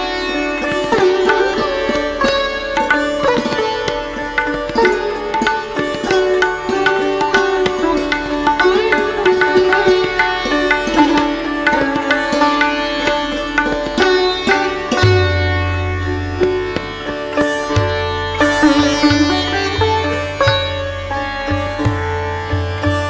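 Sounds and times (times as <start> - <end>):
plucked string melody: 0.0 - 23.0.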